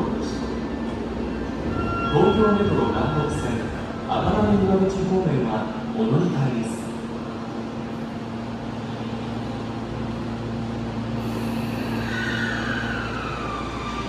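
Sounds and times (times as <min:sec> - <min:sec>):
steady low hum: 0:00.0 - 0:14.0
train rumble: 0:00.0 - 0:14.0.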